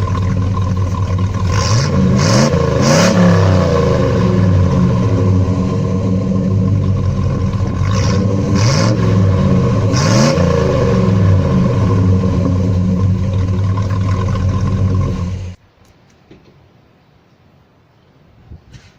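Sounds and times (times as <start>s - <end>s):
loud vee eight engine: 0.0s - 15.6s.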